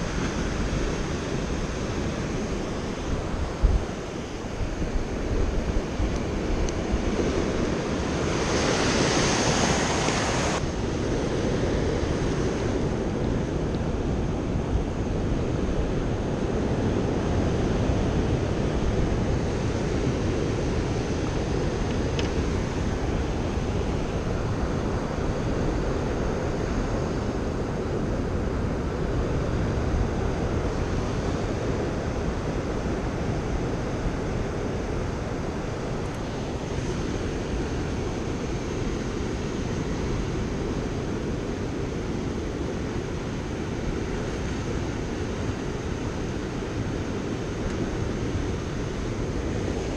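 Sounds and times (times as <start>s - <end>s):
ocean waves washing ashore: 0.0s - 49.9s
wind buffeting microphone: 0.0s - 49.9s.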